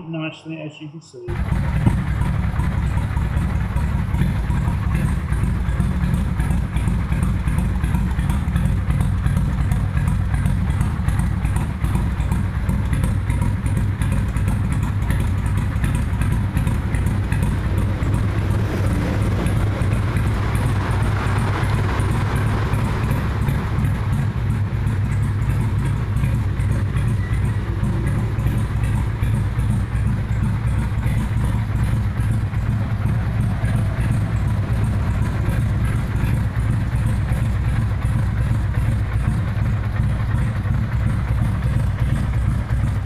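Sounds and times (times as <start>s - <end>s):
motorcycle engine idling: 1.3s - 43.0s.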